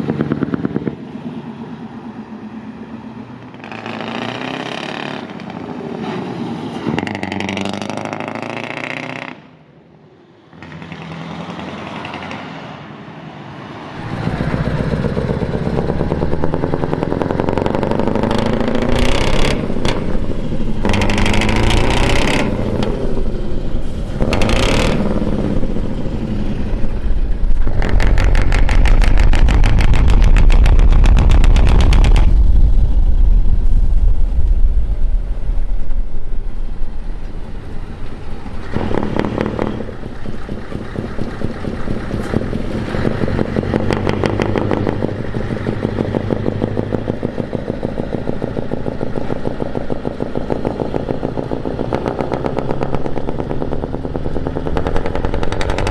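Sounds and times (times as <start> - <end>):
diesel truck driving past: 0.0 - 55.9.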